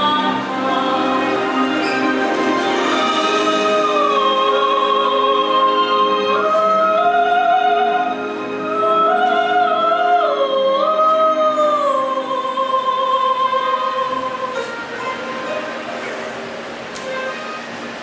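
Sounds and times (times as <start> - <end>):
person singing long notes: 0.0 - 15.5
sustained accompaniment: 0.0 - 18.0.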